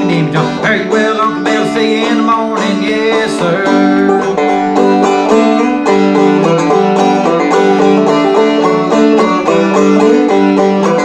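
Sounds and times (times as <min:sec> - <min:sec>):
banjo playing: 0:00.0 - 0:11.0.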